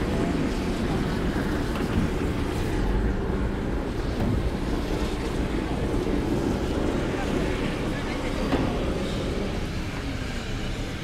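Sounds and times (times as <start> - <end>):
fire burning rumble: 0.0 - 11.0
wind buffeting microphone: 0.0 - 11.0.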